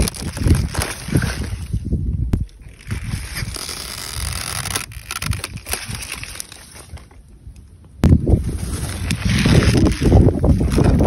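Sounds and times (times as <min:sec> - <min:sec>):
plants rustling: 0:00.0 - 0:11.0
wind on microphone: 0:00.0 - 0:11.0.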